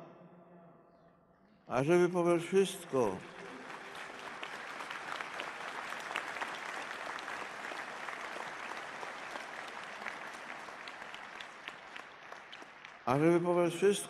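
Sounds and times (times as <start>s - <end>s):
crowd applauding: 2.0s - 14.0s.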